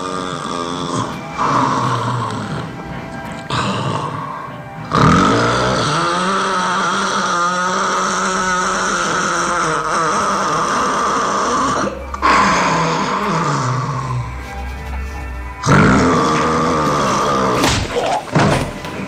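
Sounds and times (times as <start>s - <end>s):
person snoring loudly: 0.0s - 18.5s.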